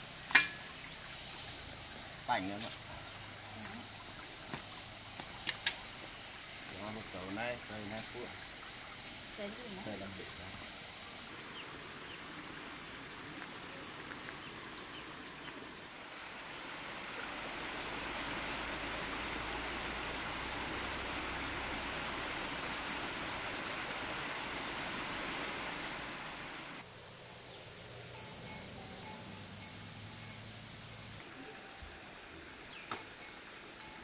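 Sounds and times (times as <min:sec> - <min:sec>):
soft even hiss: 0:00.0 - 0:34.0.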